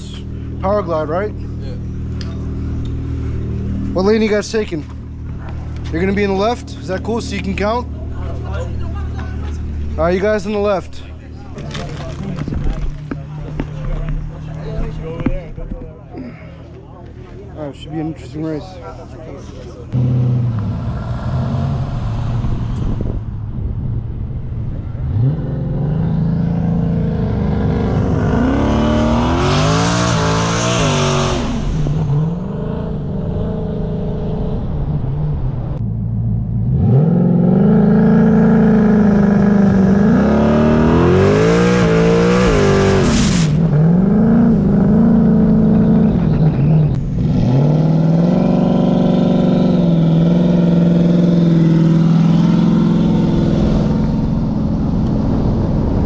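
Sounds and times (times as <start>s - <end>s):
car engine revving: 0.0s - 15.5s, 19.8s - 56.0s.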